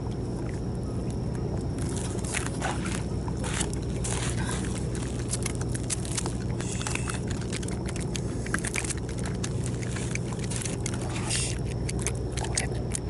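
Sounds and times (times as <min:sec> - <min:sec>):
steady low motor drone: 0:00.0 - 0:13.0.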